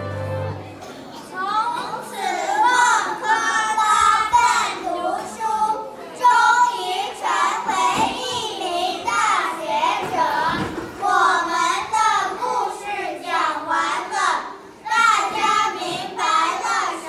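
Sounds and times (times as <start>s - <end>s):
children singing together: 1.8s - 17.0s.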